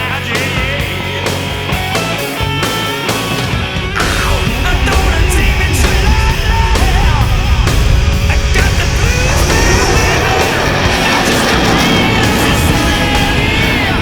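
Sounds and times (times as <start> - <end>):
heavy rock music: 0.0 - 14.0.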